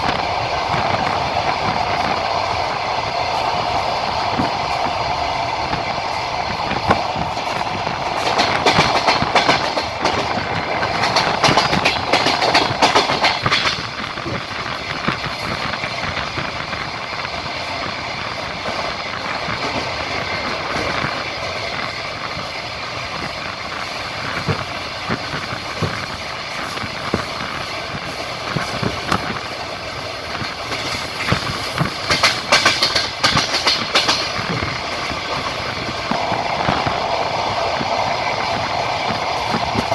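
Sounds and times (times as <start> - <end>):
train wheels rumbling on rail: 0.0 - 39.9
wheels clattering over rail joints: 0.0 - 39.9.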